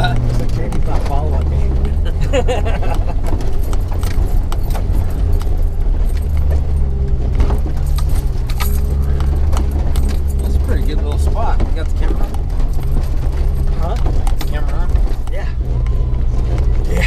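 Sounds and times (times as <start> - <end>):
clinking rattles: 0.0 - 15.4
car engine running at low revs: 0.0 - 17.0.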